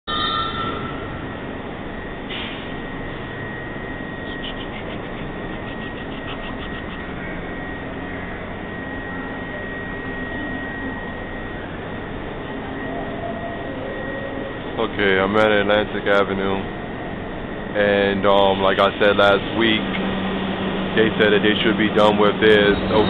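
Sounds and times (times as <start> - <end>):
faint steady high tone: 0.1 - 20.0, 21.0 - 23.0
subway platform rumble and hiss: 0.1 - 23.0.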